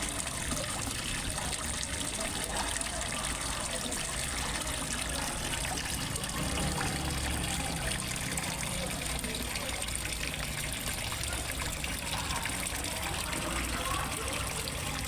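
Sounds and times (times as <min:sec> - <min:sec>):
water splashing into a pond: 0:00.0 - 0:15.0.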